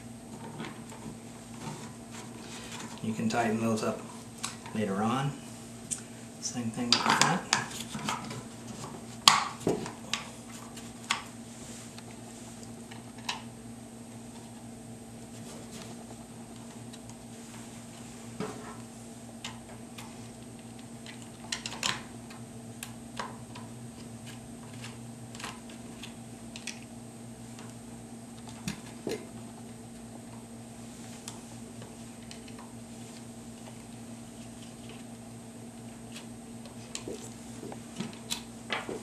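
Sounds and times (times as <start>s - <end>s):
background hum: 0.0s - 39.0s.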